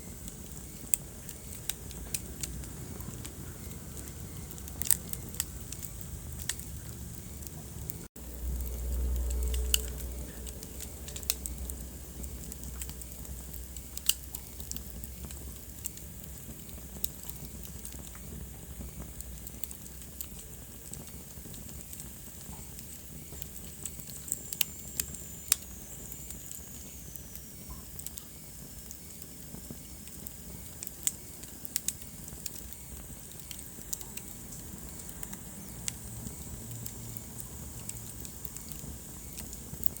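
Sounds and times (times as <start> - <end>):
low rumble and hiss of flames: 0.0 - 40.0
wood fire crackling: 0.0 - 40.0.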